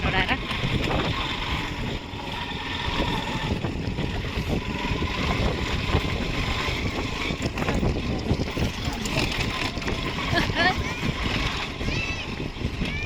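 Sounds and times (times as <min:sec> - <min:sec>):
vehicle on rough road: 0:00.0 - 0:13.0
wind buffeting microphone: 0:00.0 - 0:13.0.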